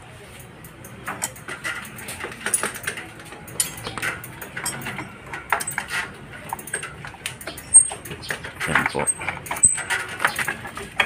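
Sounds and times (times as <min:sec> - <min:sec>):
metal parts and tools clinking: 0:00.2 - 0:11.0.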